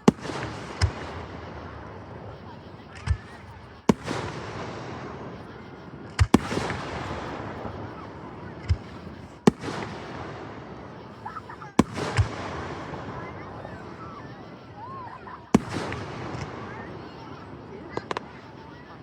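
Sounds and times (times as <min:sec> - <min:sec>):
fireworks bursting with sharp bangs: 0:00.0 - 0:19.0.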